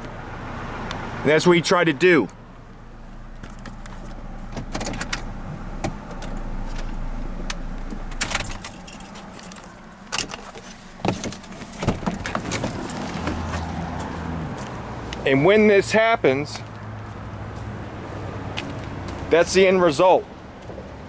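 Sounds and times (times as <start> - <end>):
engine and road hum: 0.0 - 21.0.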